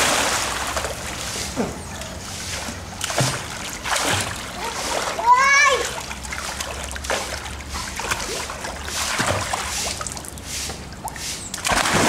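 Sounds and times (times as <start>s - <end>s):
pool water splashing: 0.0s - 12.0s.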